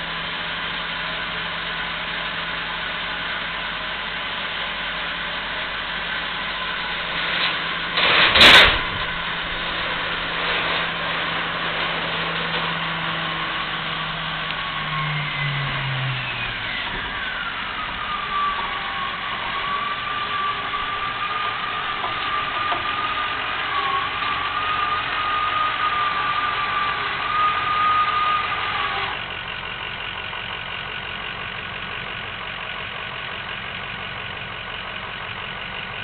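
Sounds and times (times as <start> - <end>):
high machinery whine: 0.0 - 30.5
engine running: 0.0 - 36.0.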